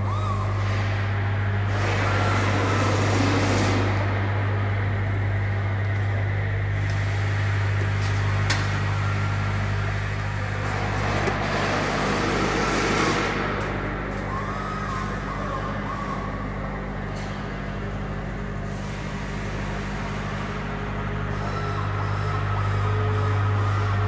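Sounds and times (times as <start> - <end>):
electrical machinery hum: 0.0 - 24.0.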